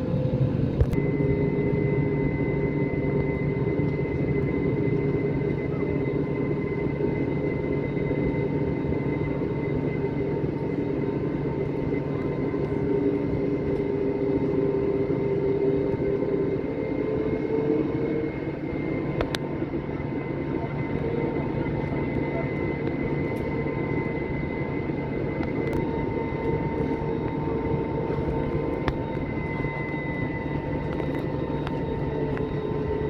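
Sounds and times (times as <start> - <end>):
jet engine cabin hum: 0.0 - 33.0.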